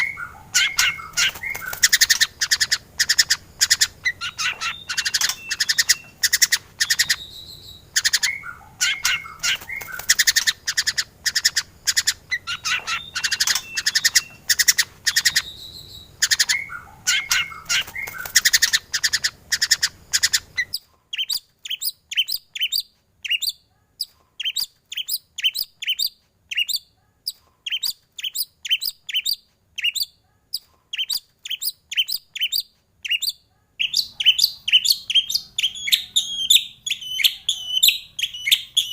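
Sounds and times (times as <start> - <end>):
bird singing varied song: 0.0 - 30.2, 30.9 - 38.9.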